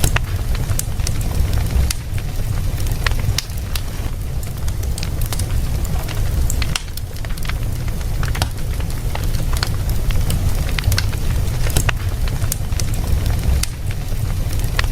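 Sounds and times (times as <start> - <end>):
low fire rumble: 0.0 - 14.9
wood fire crackling and popping: 0.0 - 14.9.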